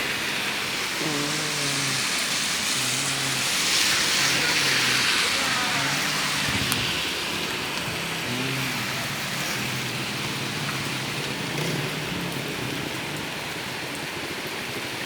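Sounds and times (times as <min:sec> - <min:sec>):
heavy rain downpour: 0:00.0 - 0:15.0.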